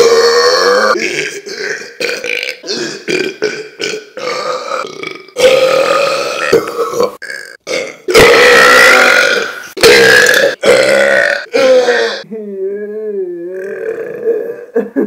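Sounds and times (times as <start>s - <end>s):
person burping: 0.0s - 12.3s.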